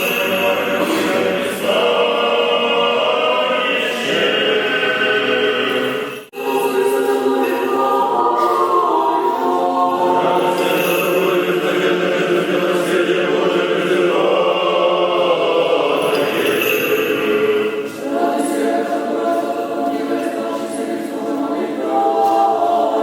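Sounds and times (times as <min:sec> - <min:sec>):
choir singing unaccompanied chant: 0:00.0 - 0:23.0.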